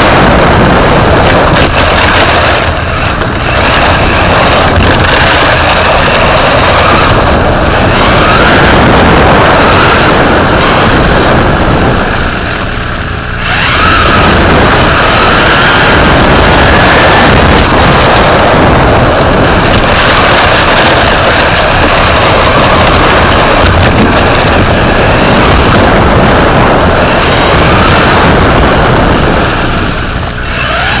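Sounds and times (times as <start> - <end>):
electric motor whine: 0.0 - 31.0
tyre and wind rush: 0.0 - 31.0.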